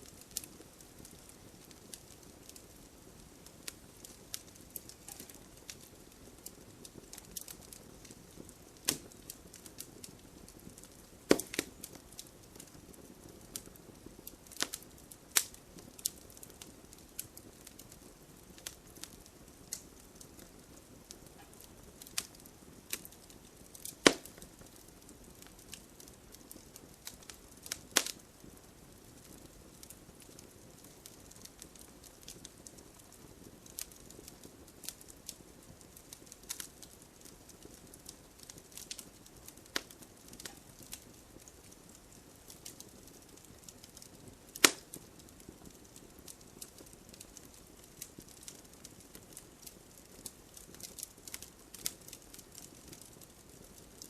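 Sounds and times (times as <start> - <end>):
sharp fire pops: 0.0 - 54.0
wood fire crackling and hissing: 0.0 - 54.0.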